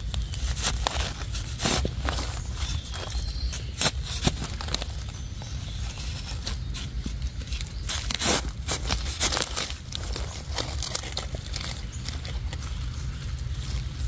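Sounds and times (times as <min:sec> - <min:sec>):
dry leaf litter rustling: 0:00.0 - 0:14.0
steady low rumble: 0:00.0 - 0:14.0
twigs snapping: 0:00.0 - 0:14.0.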